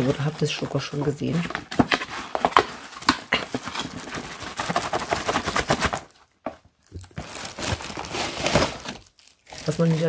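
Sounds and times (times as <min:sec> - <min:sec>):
wrapping rustling and crinkling: 0:00.0 - 0:10.0.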